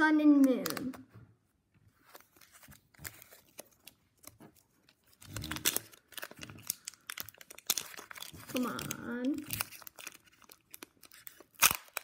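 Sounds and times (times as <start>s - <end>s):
foil wrapper crinkling and tearing: 2.1s - 12.0s.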